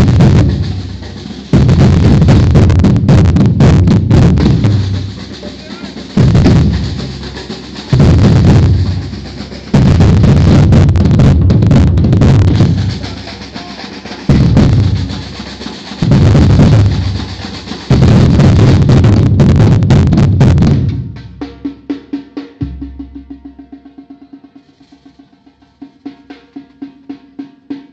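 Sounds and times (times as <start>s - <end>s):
bass drums: 0.0s - 23.8s
snare drums: 0.0s - 27.9s.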